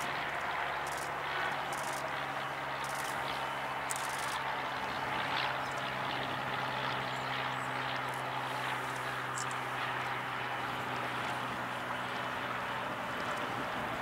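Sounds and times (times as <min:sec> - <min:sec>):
jet engines idling: 0:00.0 - 0:14.0.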